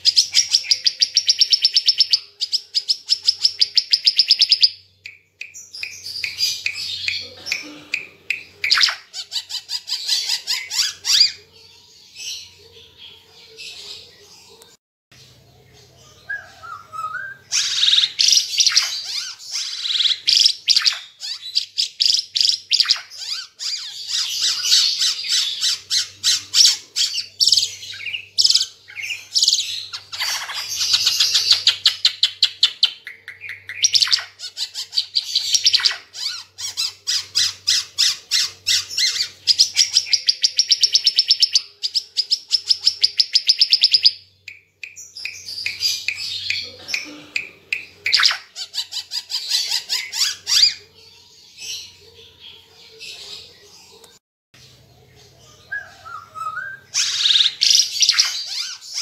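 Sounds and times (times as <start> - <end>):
songbird chirping and trilling: 0.0 - 59.0.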